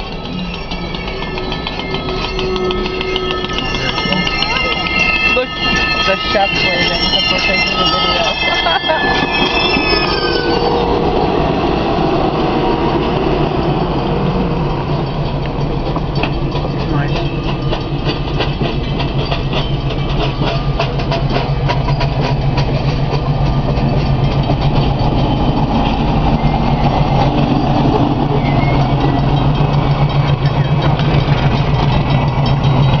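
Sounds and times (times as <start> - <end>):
train wheels clacking over rail joints: 0.0 - 10.7, 11.4 - 33.0
diesel engine drone: 0.0 - 33.0.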